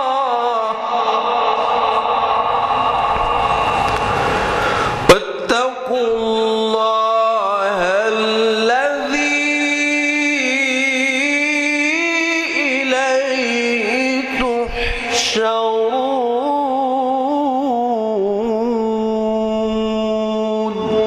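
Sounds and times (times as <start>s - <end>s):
man reciting melodically: 0.0s - 1.7s, 5.1s - 21.0s.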